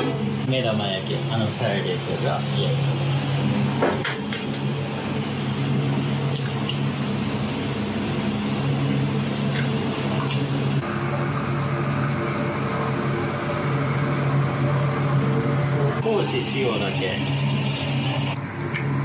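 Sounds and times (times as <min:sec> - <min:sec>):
kitchen equipment drone: 0:00.0 - 0:19.0.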